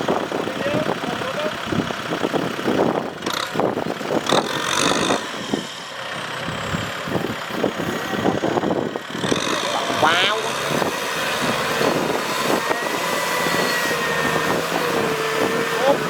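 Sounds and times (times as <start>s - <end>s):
engine clattering and knocks: 0.0s - 16.0s
tractor engine under load: 0.0s - 16.0s.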